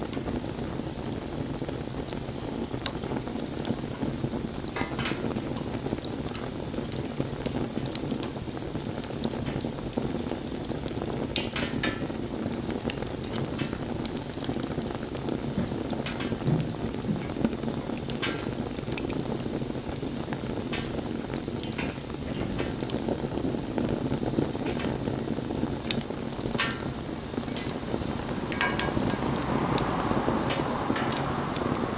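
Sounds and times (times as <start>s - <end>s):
bonfire crackling and popping: 0.0s - 31.9s.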